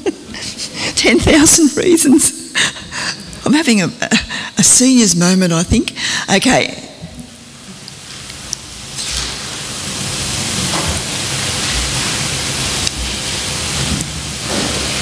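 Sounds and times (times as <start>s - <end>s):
static hiss over loudspeakers: 0.0s - 15.0s.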